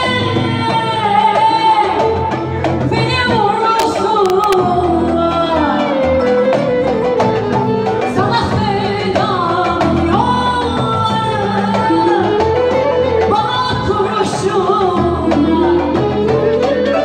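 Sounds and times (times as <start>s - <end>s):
instrumental accompaniment: 0.0s - 17.0s
woman singing into microphone: 0.0s - 17.0s.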